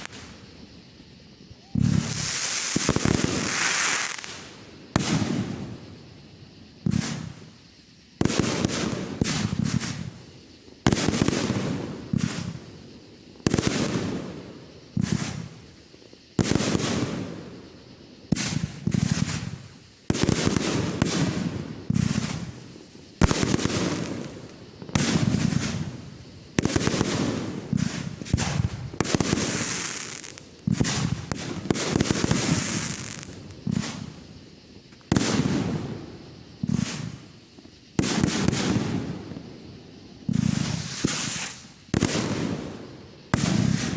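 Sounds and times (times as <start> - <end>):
fireworks bursting with echoes: 0.0 - 43.9.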